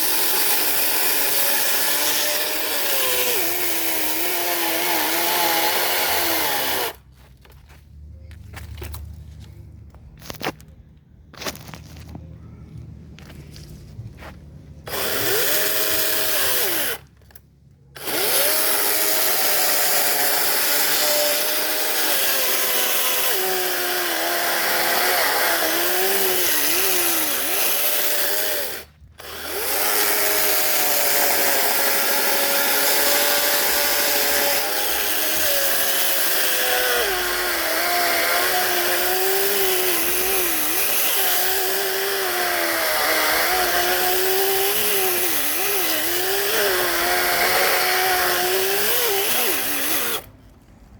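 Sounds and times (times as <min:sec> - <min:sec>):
electric saw cutting branches: 0:00.0 - 0:07.0, 0:14.8 - 0:17.4, 0:18.0 - 0:50.3.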